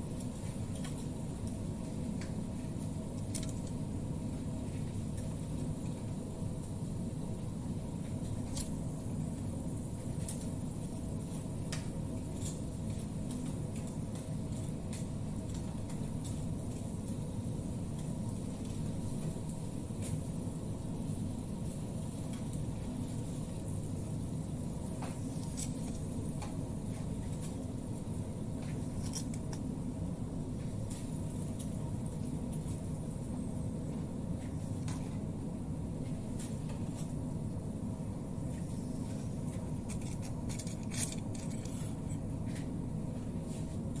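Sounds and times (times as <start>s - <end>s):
frying drone with crackles: 0.0s - 44.0s
kitchen exhaust fan rumble: 0.0s - 44.0s.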